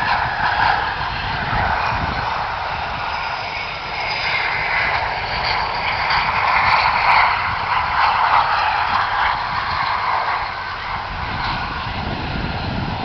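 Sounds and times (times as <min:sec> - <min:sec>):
jet engine rushing: 0:00.0 - 0:13.0.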